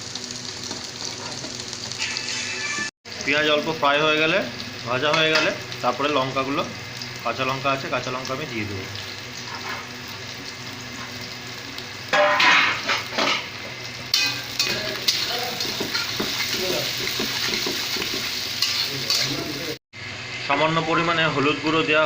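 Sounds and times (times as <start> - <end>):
onions sizzling in oil: 0.0 - 20.3.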